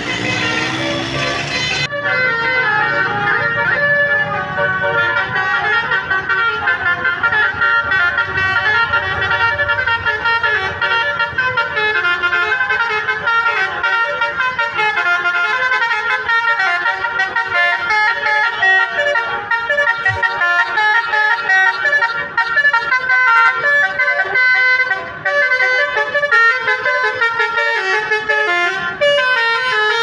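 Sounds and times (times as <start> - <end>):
musical bus horn melody: 0.0 - 30.0.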